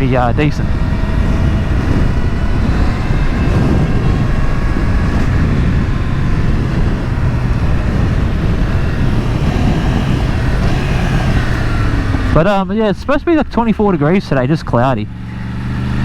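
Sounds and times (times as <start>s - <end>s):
wind noise: 0.0s - 14.8s
motorcycle engine cruising: 0.0s - 16.0s
road noise: 0.0s - 16.0s.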